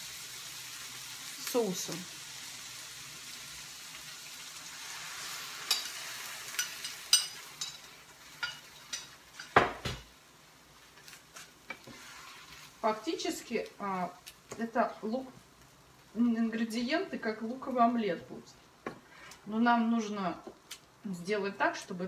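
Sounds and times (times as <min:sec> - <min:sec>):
onions sizzling in pan: 0:00.0 - 0:22.0.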